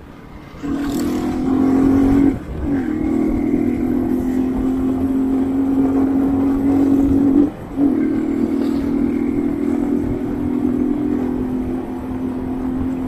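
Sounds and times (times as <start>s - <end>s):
motorcycle engine running: 0.6s - 13.0s.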